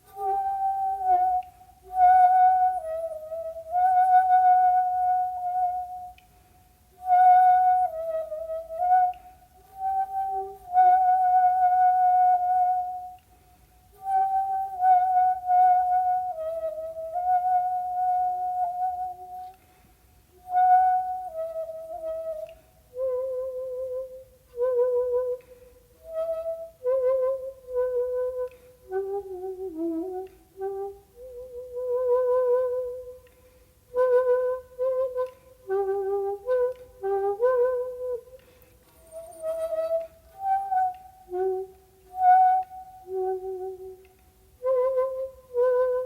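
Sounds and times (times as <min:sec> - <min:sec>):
bamboo flute slow melody: 0:00.0 - 0:46.0.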